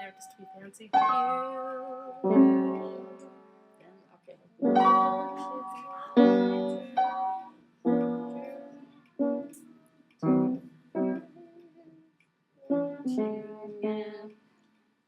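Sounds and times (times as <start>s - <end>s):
piano chords ringing: 0.0s - 3.7s, 4.6s - 11.6s, 12.7s - 14.2s.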